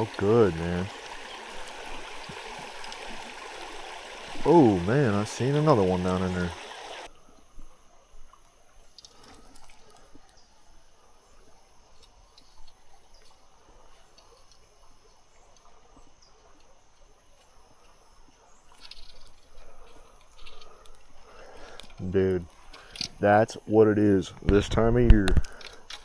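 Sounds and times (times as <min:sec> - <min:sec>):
water trickling: 0:00.0 - 0:07.6, 0:08.2 - 0:26.0
crickets chirping: 0:00.0 - 0:26.0.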